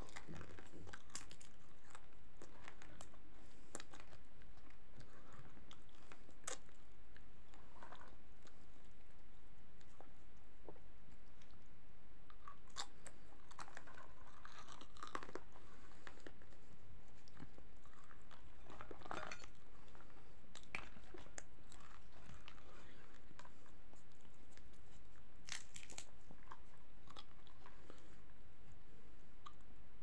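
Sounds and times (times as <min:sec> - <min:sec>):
person chewing crunchy bread: 0:00.0 - 0:30.0.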